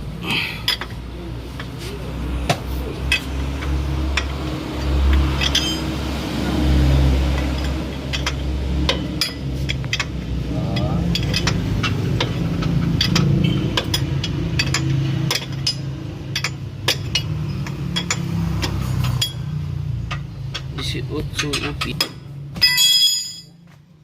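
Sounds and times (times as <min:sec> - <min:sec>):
hand tools clinking on metal: 0:03.0 - 0:06.0, 0:07.4 - 0:23.7.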